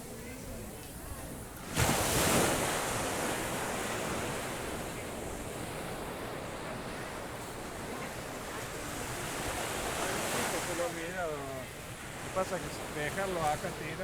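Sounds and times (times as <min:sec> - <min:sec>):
surf washing onto beach: 0:01.6 - 0:14.0.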